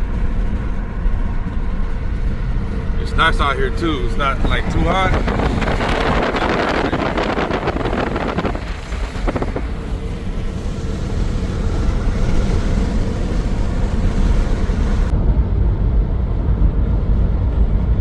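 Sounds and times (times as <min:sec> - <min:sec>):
car driving at highway speed: 0:00.0 - 0:18.0.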